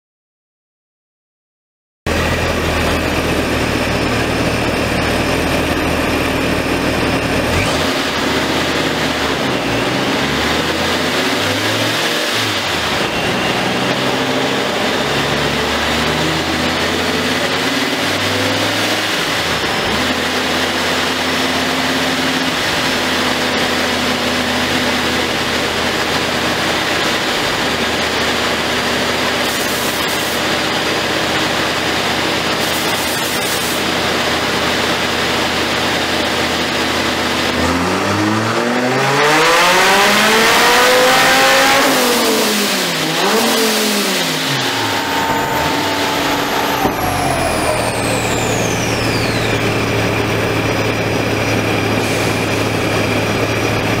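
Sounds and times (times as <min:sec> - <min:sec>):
car engine revving on dyno: 0:02.1 - 0:54.0.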